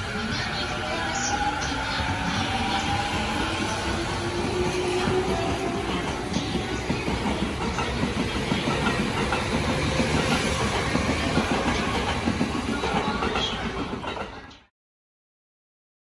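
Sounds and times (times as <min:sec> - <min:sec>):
electric train passing: 0:00.0 - 0:14.7.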